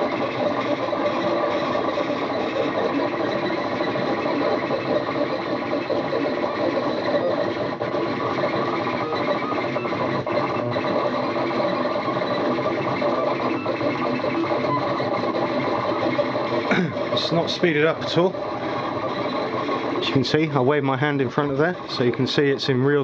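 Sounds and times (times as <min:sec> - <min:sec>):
printer stepper motors whining: 0:00.0 - 0:23.0.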